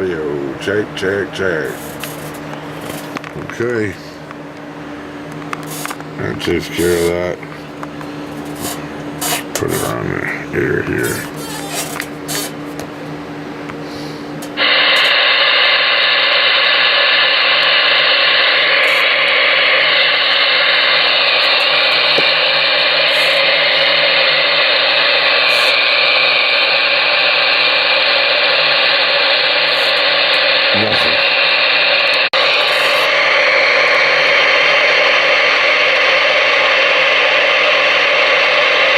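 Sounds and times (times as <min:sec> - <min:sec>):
radio static hiss: 0:00.0 - 0:04.2, 0:05.6 - 0:07.6, 0:08.4 - 0:12.6, 0:14.0 - 0:38.9.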